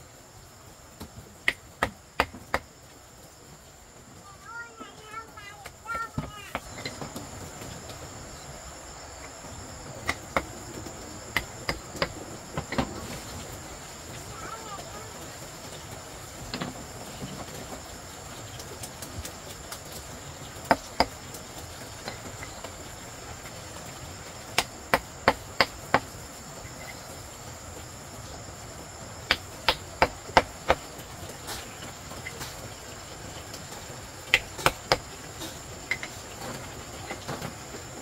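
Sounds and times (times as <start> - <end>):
high insect buzz: 0.0 - 38.0.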